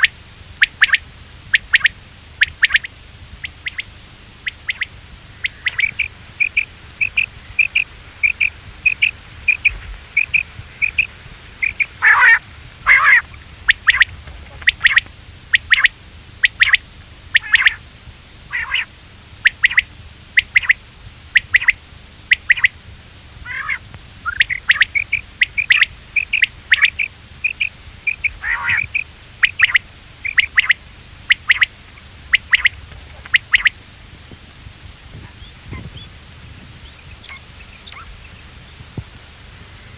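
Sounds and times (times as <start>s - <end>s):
quail calling: 0.0s - 22.8s, 23.4s - 33.9s, 35.1s - 36.2s, 36.8s - 39.9s.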